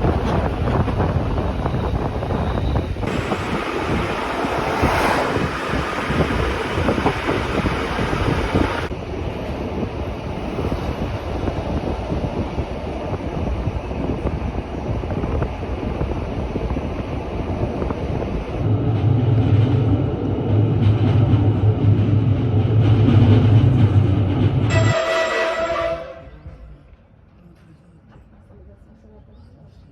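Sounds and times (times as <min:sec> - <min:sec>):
train rail and wind noise: 0:00.0 - 0:29.9.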